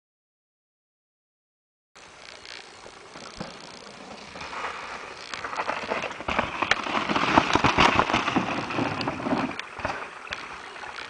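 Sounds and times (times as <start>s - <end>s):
bike rattling and clicking: 2.0s - 11.0s
bike tyres crunching snow: 2.0s - 11.0s.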